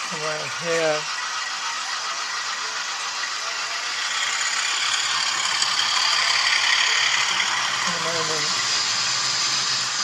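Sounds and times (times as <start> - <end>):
model train motors whirring: 0.0 - 10.0.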